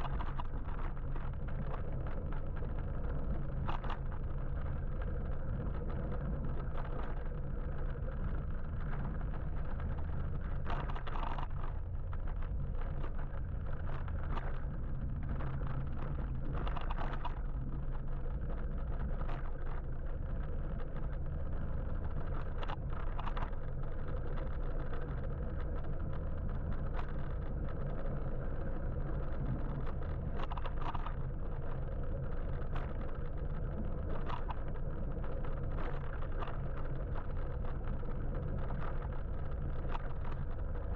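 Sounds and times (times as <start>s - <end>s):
road noise: 0.0s - 40.9s
wind rumble: 0.0s - 40.9s.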